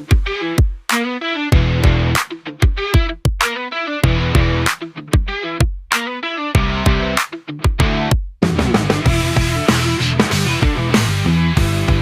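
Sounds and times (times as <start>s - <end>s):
guitar music over drum beat: 0.0s - 12.0s.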